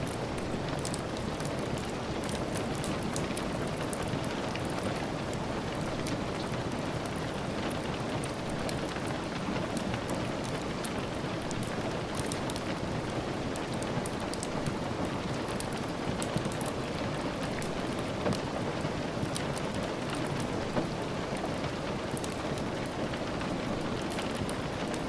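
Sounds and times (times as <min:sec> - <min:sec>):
light sharp rain ticks: 0:00.0 - 0:25.0
steady rainfall: 0:00.0 - 0:25.0.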